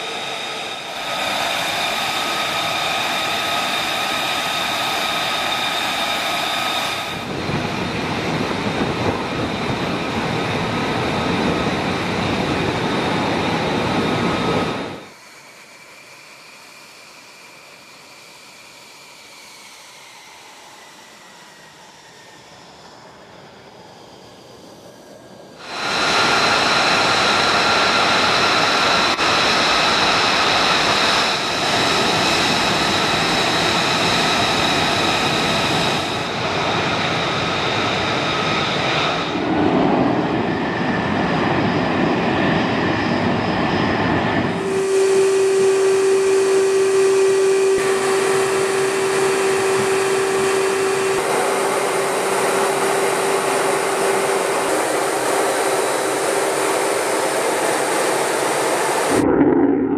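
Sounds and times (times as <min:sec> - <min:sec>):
jet engine whining: 0:00.0 - 0:59.9
jet in-flight drone: 0:00.0 - 0:59.9
jet taking off roaring: 0:00.0 - 0:59.9.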